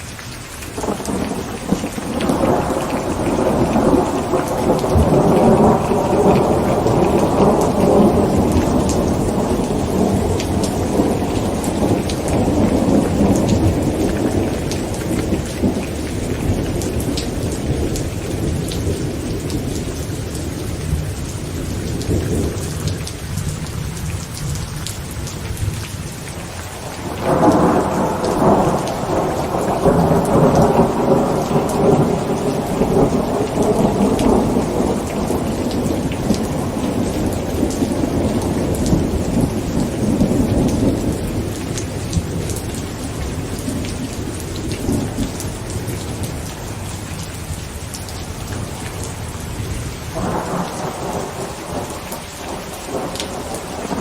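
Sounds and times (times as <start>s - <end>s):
heavy rain on a tent: 0.0s - 54.0s
thunder rumble: 0.8s - 23.6s, 26.7s - 46.9s, 48.5s - 54.0s.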